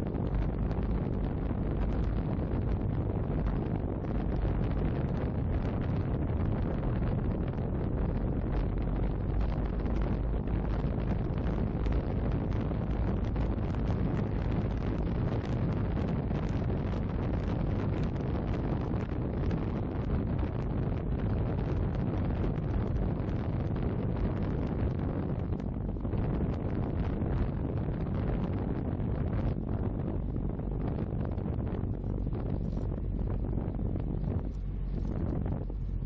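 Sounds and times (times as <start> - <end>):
wind rushing on microphone: 0.0 - 36.0.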